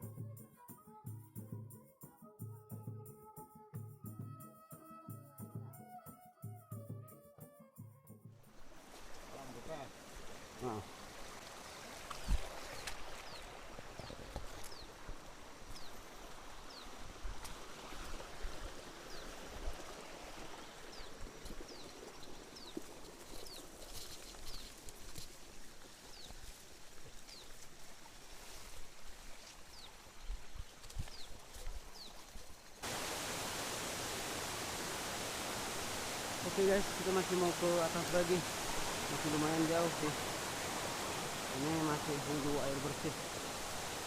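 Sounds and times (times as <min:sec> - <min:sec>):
stream running: 0:08.4 - 0:44.0.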